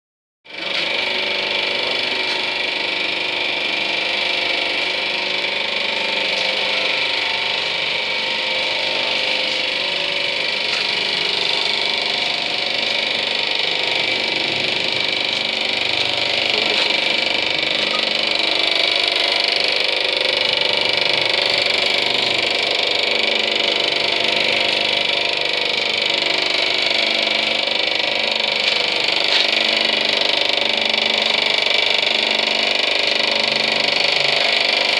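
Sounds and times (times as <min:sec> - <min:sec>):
engine model mechanical running: 0:00.5 - 0:34.9.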